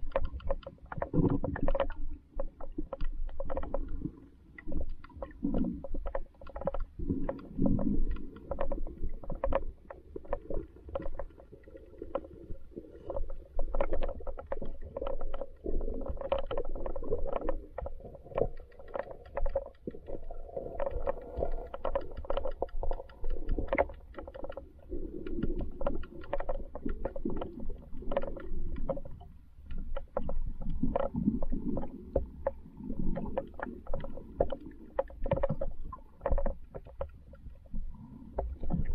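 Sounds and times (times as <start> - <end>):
muffled underwater river rumble: 0.0 - 38.9
underwater clicks and ticks: 0.0 - 38.9.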